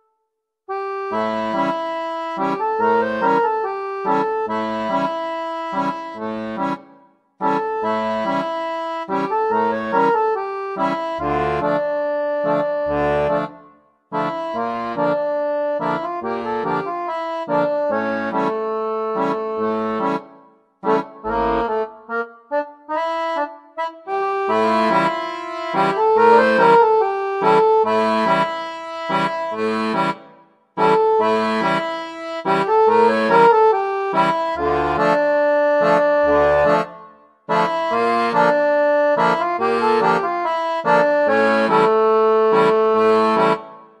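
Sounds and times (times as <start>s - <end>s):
upbeat instrumental music: 0.7s - 44.0s.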